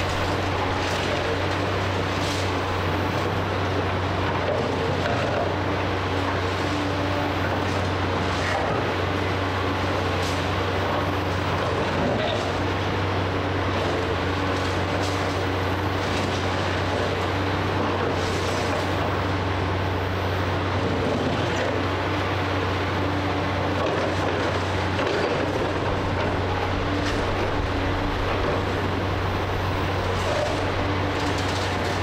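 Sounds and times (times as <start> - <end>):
excavator diesel engine humming: 0.0 - 32.0.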